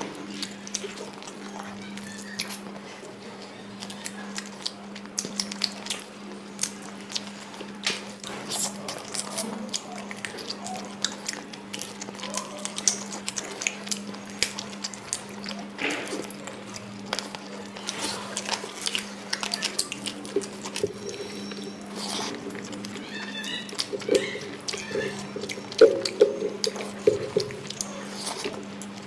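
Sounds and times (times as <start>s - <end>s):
low steady hum: 0.0s - 29.0s
wet chewing and lip-smacking: 0.0s - 29.0s.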